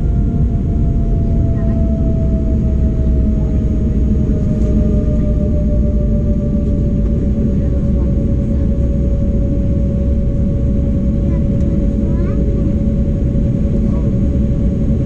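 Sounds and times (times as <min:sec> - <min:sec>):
aircraft cabin rumble: 0:00.0 - 0:15.0
jet engine whine: 0:00.0 - 0:15.0.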